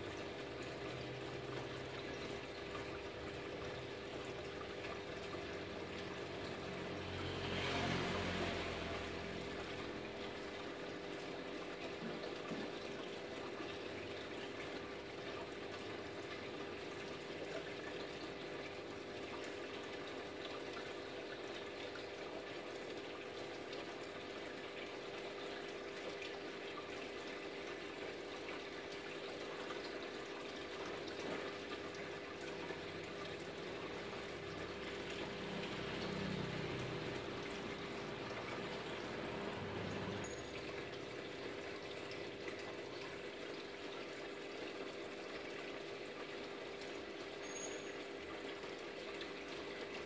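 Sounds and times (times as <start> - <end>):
water trickling and splashing: 0.0 - 50.0.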